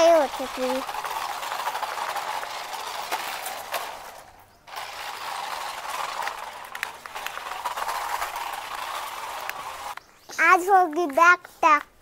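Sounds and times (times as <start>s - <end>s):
toy car motors whirring: 0.0s - 10.0s.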